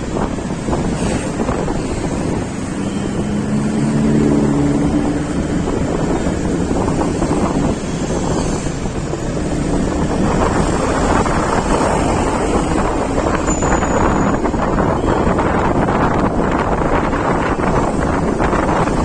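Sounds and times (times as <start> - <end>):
low rumble of road noise: 0.0 - 19.0
wind buffeting microphone: 0.0 - 19.0.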